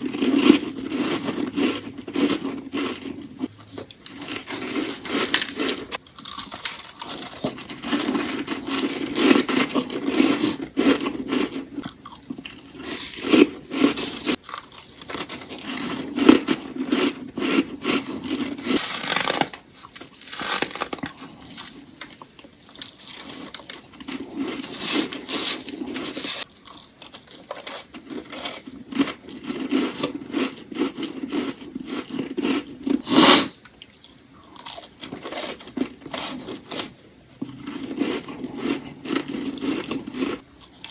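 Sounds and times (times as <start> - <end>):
crunching and chewing frost: 0.0 - 40.9.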